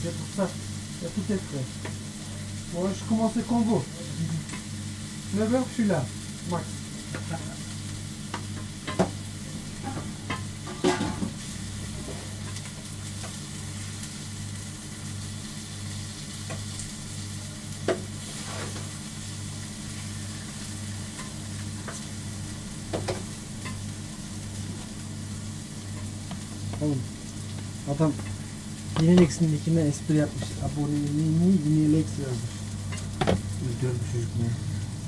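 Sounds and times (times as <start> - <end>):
food sizzling on a griddle: 0.0 - 35.0.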